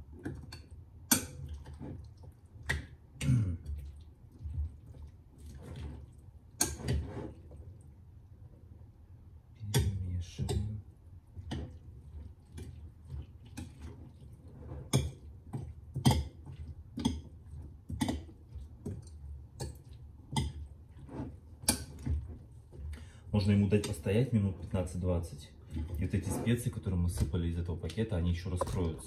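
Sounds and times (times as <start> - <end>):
soft wet mixing: 0.0 - 29.0.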